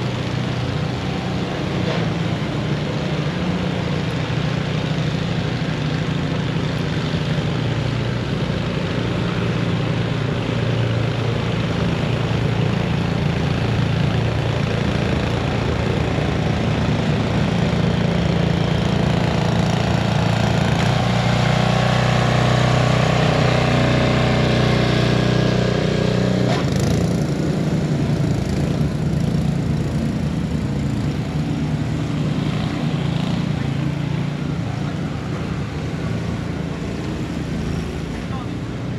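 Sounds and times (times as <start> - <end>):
engine humming: 0.0 - 38.9
street noise: 0.0 - 38.9.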